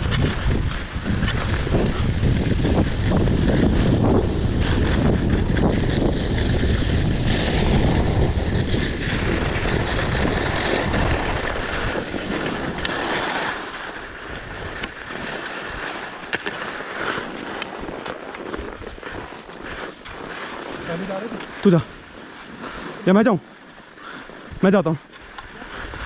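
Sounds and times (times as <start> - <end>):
wind buffeting microphone: 0.0 - 23.4, 24.3 - 26.0
skis hissing over snow: 0.0 - 26.0.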